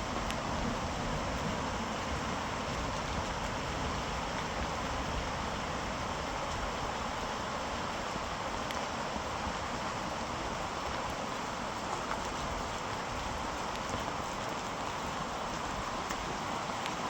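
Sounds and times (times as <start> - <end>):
heavy rain falling: 0.0 - 17.0
wind: 0.0 - 17.0.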